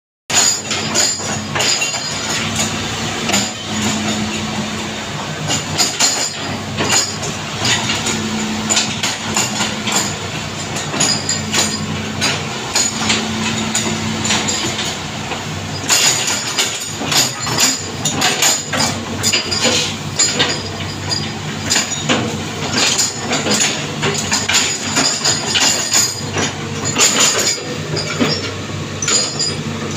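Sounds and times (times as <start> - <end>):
excavator diesel engine running: 0.3 - 29.9
metallic clanks of steel tracks: 0.3 - 29.9.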